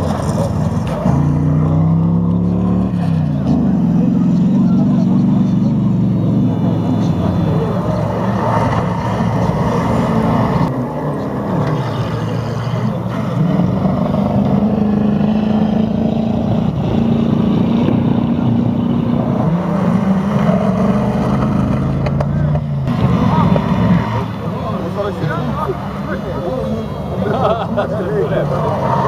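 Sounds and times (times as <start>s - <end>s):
buggy engines running hard: 0.0s - 29.0s.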